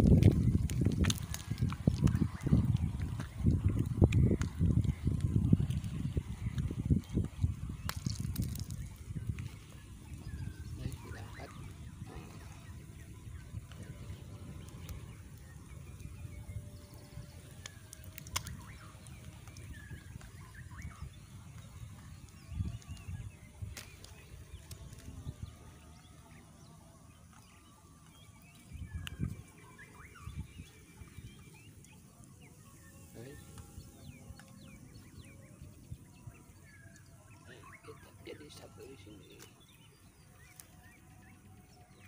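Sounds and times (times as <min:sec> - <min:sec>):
low outdoor rumble: 0:00.0 - 0:38.6
birds chirping: 0:00.0 - 0:42.0.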